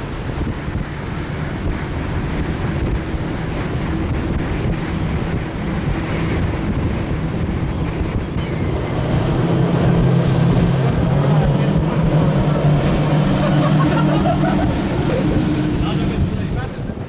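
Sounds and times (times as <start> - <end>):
motorboat engines running: 0.0 - 17.0
rush of water: 0.0 - 17.0
wind on microphone: 0.0 - 17.0.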